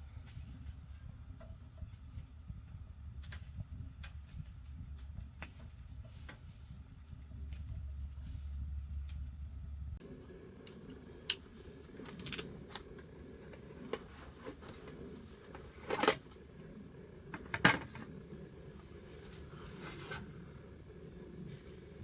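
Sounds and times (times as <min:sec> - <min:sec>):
low steady background noise: 0:00.0 - 0:22.0.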